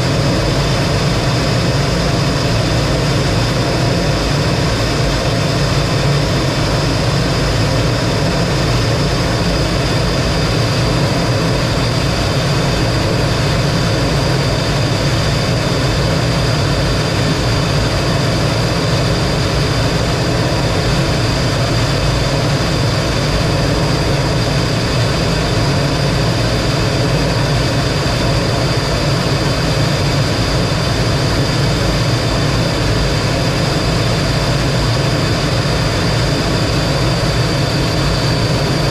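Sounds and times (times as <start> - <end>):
jet engine running with whine: 0.0 - 38.9.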